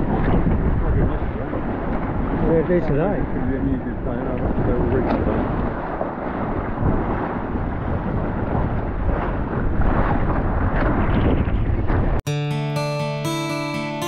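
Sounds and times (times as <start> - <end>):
choppy water along hull: 0.0 - 12.3
gusty wind buffeting microphone: 0.0 - 12.3.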